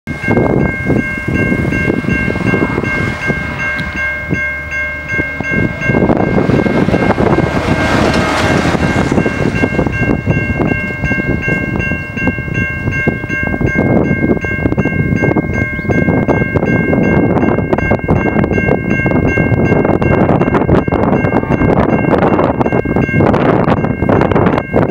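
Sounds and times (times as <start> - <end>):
level crossing warning bells: 0.1 - 24.9
low gusty rumbling: 0.1 - 24.9.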